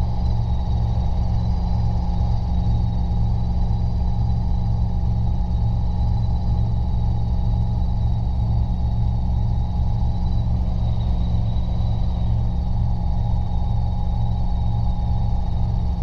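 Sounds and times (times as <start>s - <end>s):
faint high whine: 0.0s - 16.0s
helicopter engine and rotor drone: 0.0s - 16.0s.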